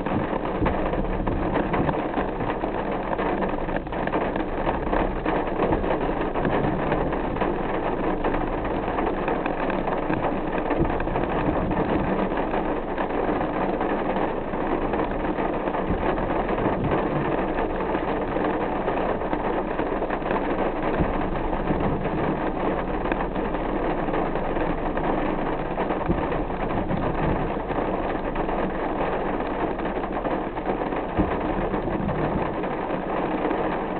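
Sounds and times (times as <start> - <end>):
car engine hum: 0.0 - 33.9
rain and road noise: 0.0 - 33.9.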